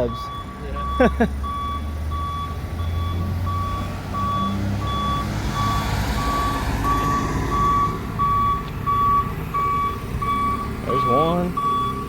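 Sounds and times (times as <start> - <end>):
backup alarm beeping: 0.0 - 12.0
forklift engine running: 0.0 - 12.0.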